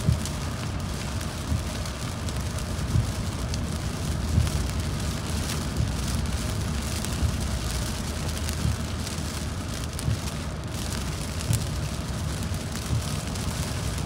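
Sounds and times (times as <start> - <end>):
low road rumble: 0.0 - 14.0
rain on car: 0.0 - 14.0
tyres hissing on wet pavement: 0.0 - 14.0.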